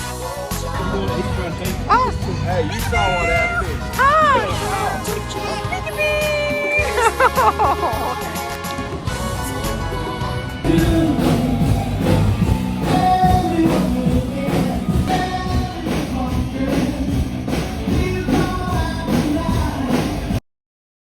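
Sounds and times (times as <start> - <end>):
rock music with singing: 0.0 - 20.4.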